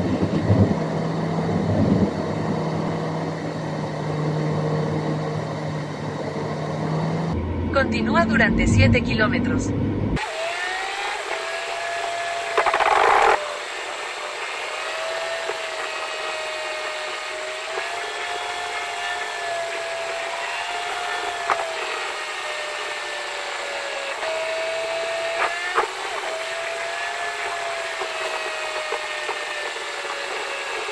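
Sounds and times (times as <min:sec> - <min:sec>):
high whine inside moving car: 0:00.0 - 0:30.9.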